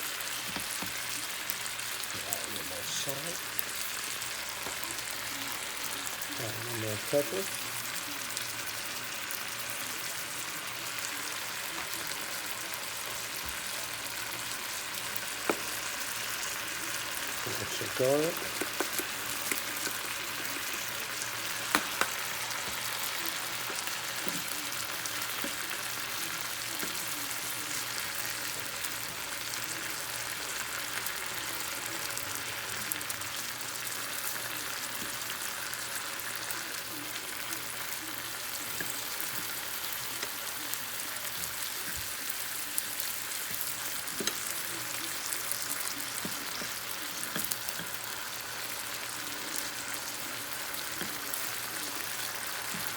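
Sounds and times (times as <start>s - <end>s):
meat sizzling in a pan: 0.0s - 52.9s.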